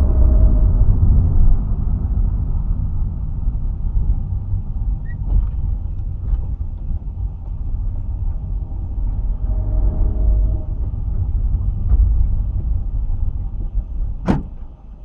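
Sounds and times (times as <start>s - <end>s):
car engine rumbling on the move: 0.0s - 15.0s.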